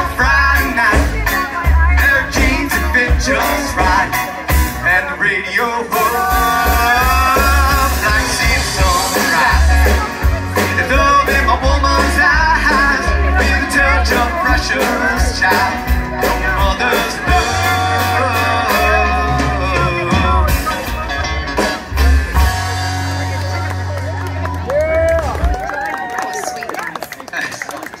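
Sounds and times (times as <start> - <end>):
wavering melodic lead: 0.0 - 25.2
bass guitar: 0.0 - 26.2
drums: 0.0 - 27.3.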